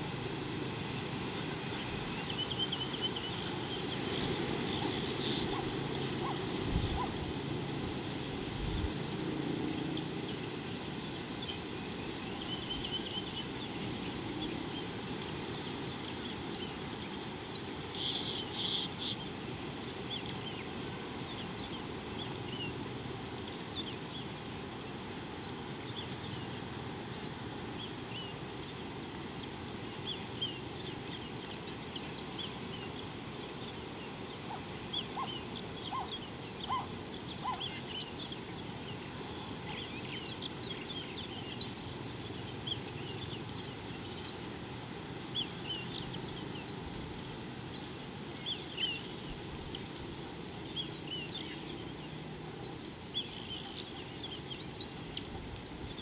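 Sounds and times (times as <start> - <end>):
steady background hiss: 0.0 - 56.0
small birds chirping: 0.4 - 7.4, 9.8 - 56.0.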